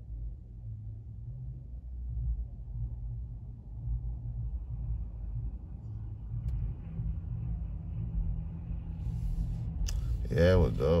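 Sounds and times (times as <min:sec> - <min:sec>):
car cabin rumble and hum: 0:00.0 - 0:11.0.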